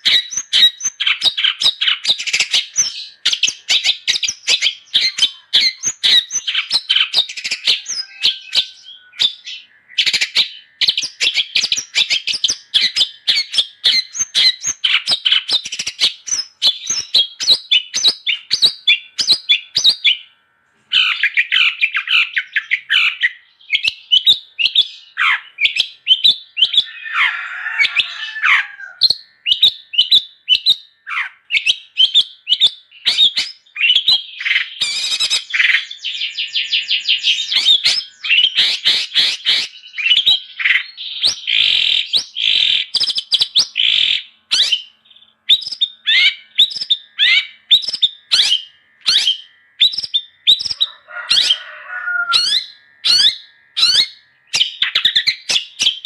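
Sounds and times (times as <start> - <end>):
bird harsh squawks: 0.0 - 20.2, 20.9 - 44.9, 45.5 - 56.0
shrike chattering song: 0.0 - 20.3, 20.9 - 56.0.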